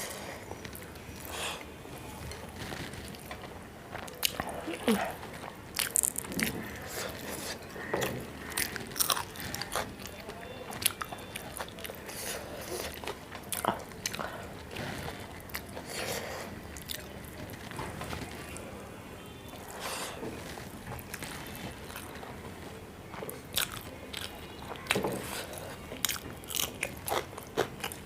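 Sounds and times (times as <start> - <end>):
chewing food: 2.2 - 18.7, 19.5 - 28.0.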